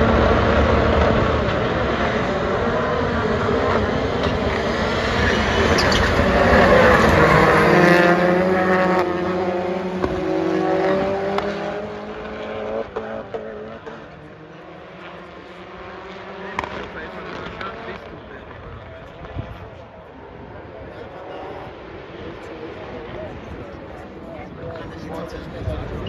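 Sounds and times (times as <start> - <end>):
race car engines running hard: 0.0 - 26.0.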